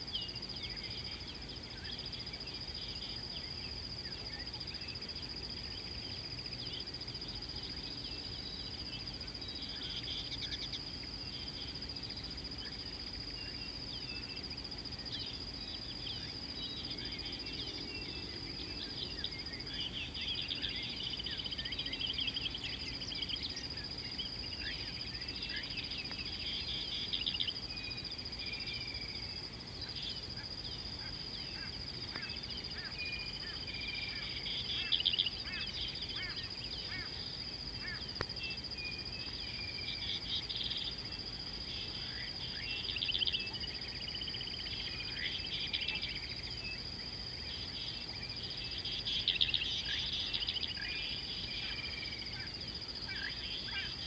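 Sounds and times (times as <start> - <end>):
steady high-pitched whine: 0.0 - 54.0
birds chirping and trilling: 0.1 - 54.0.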